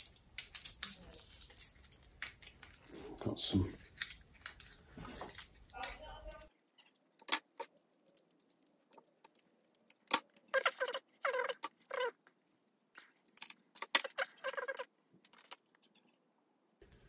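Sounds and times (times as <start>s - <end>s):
metal parts squeaking: 0.0s - 9.4s, 10.2s - 12.3s, 13.0s - 16.2s.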